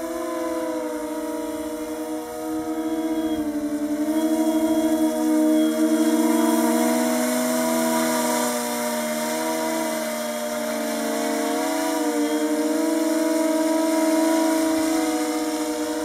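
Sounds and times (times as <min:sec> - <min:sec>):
model airplane propeller droning: 0:00.0 - 0:16.0.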